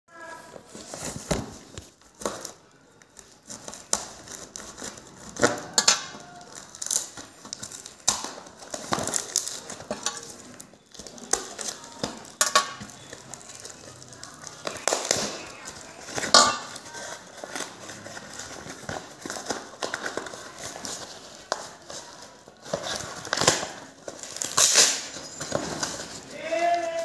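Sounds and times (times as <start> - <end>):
cardboard parcel being torn open: 0.5 - 27.0.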